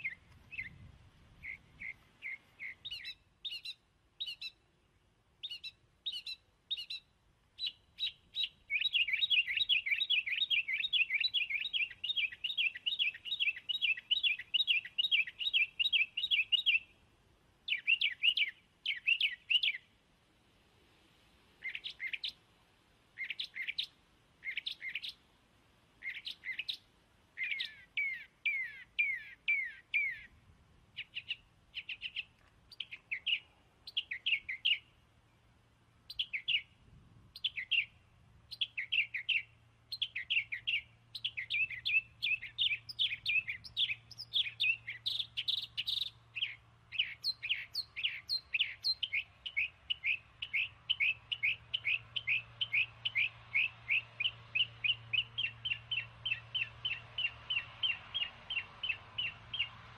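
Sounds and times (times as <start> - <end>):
small bird chirping: 0.0 - 4.7, 5.4 - 17.0, 17.6 - 19.9, 21.6 - 22.4, 23.2 - 25.3, 26.0 - 35.0, 36.0 - 59.8.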